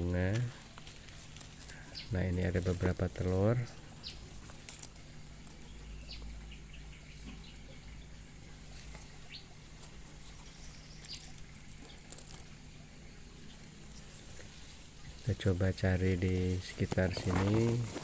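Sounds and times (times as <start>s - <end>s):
rustles: 0.0s - 6.6s, 8.2s - 18.0s
small birds chirping: 0.0s - 18.0s.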